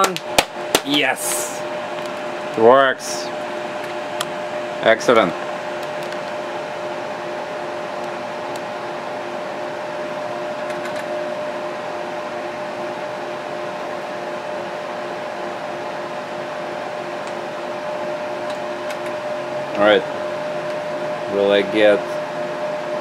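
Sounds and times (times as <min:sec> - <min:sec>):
steady whine: 0:00.0 - 0:14.6, 0:15.5 - 0:23.0
computer fans whirring: 0:00.0 - 0:23.0.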